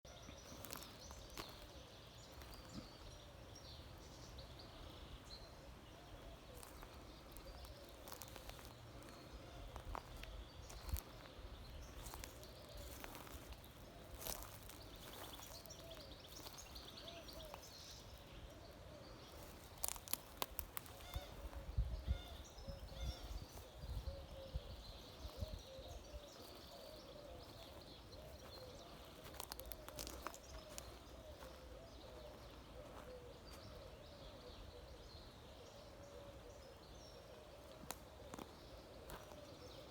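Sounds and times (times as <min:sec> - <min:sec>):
birds calling and singing: 0:00.0 - 0:39.9.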